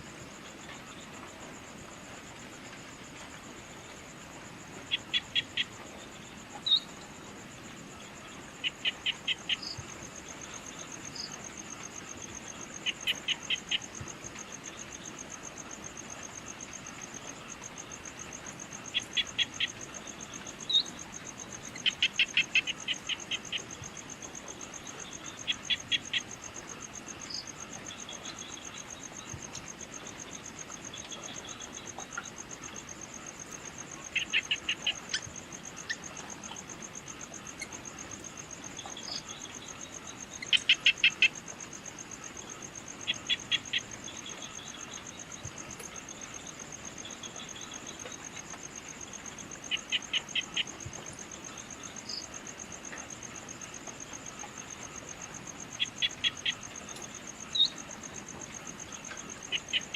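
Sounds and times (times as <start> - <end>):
high-pitched insect trill: 2.1 - 59.9.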